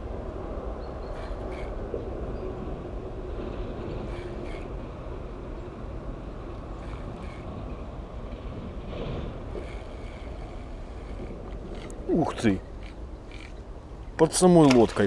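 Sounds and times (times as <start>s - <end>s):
passing train rumbling: 0.0s - 14.5s.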